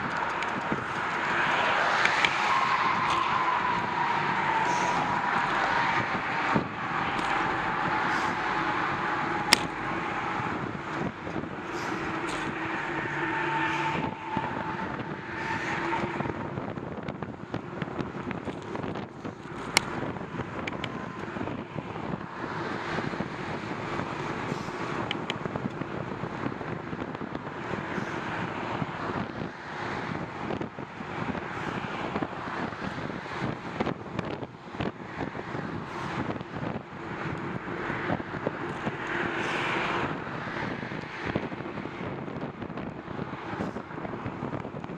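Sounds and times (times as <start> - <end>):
road traffic passing: 0.0 - 44.9
vehicle hum: 0.0 - 44.9.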